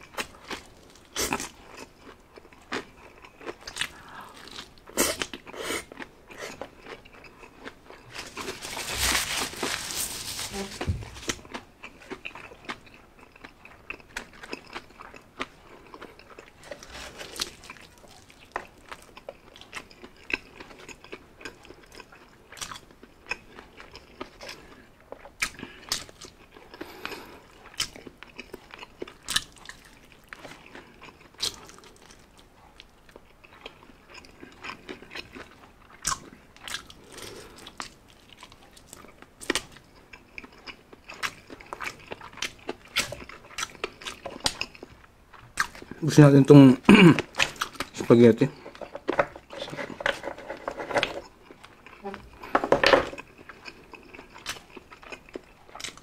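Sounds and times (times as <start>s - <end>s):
person chewing fried chicken: 0.0s - 46.0s, 46.8s - 56.0s.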